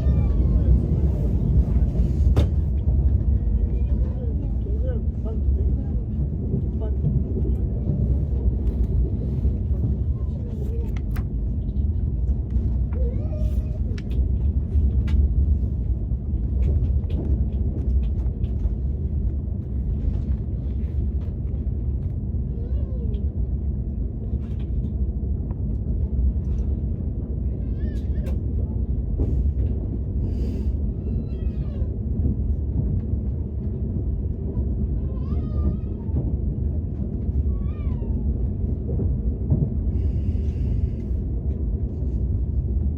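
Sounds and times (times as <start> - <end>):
train cabin low rumble: 0.0 - 42.9.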